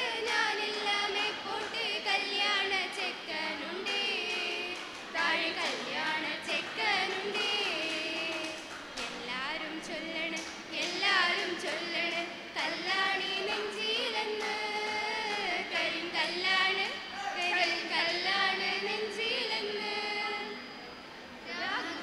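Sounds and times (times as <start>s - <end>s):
group singing into microphones: 0.0s - 22.0s.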